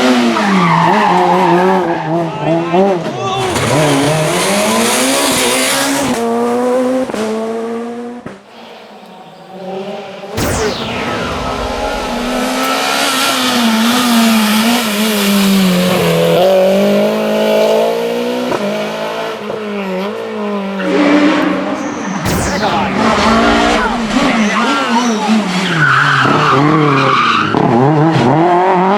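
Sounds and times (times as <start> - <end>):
rally car engines at high revs: 0.0 - 28.9.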